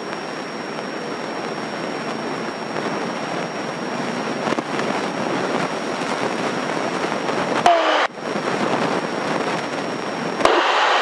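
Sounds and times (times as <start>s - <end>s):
airplane cabin engine noise: 0.0s - 11.0s.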